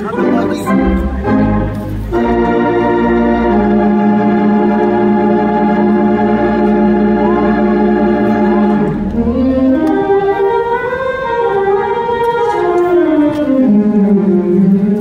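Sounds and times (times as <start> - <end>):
pipe organ chords: 0.0 - 15.0.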